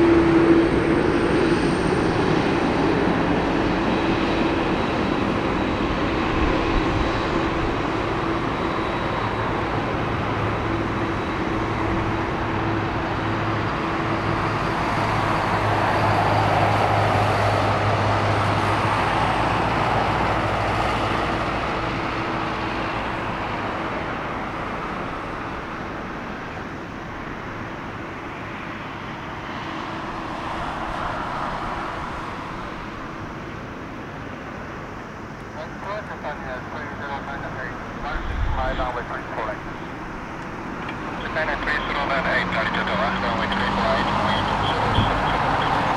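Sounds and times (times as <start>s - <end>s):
jet engines taxiing: 0.0s - 45.9s.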